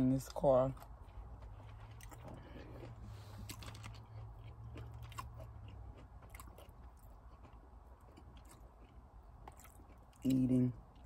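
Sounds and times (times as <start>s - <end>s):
low steady hum: 0.0s - 11.0s
close-up chewing: 0.3s - 11.0s.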